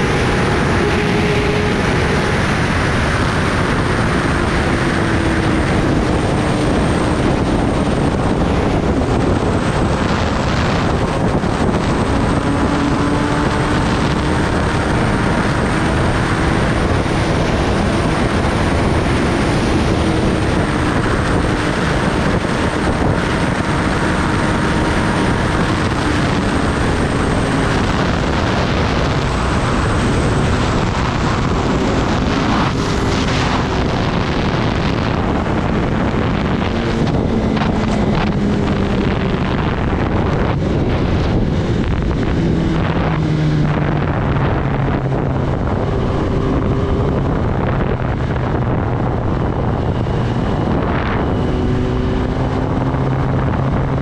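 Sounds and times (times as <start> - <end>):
motorcycle engine cruising: 0.0 - 54.0
wind rush on microphone: 0.0 - 54.0.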